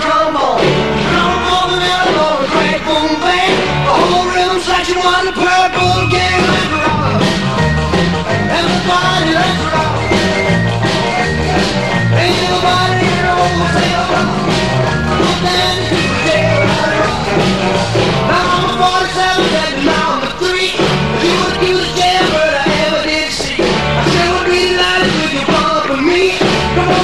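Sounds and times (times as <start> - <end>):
rock and roll music: 0.0 - 27.0.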